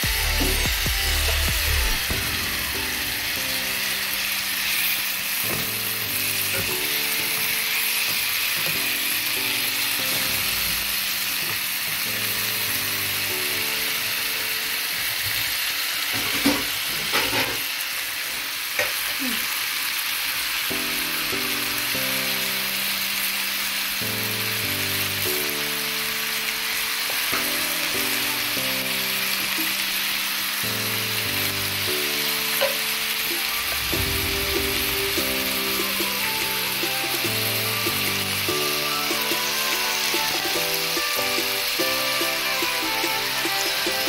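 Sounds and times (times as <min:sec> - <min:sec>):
soft background music: 0:00.0 - 0:16.5, 0:20.7 - 0:44.0
vegetables sizzling in oil: 0:00.0 - 0:44.0.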